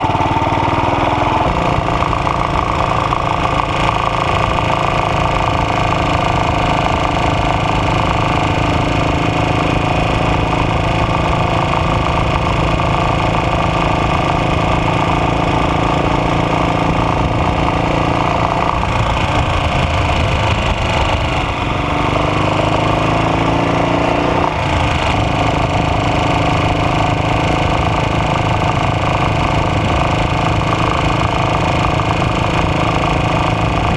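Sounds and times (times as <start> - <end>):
motorcycle engine knocking: 0.0 - 33.9.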